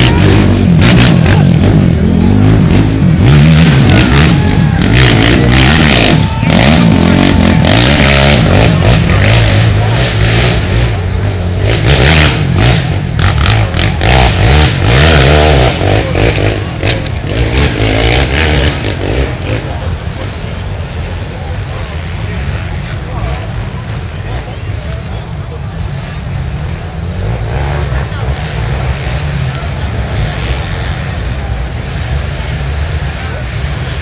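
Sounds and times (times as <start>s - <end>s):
atv engines revving: 0.0s - 34.0s.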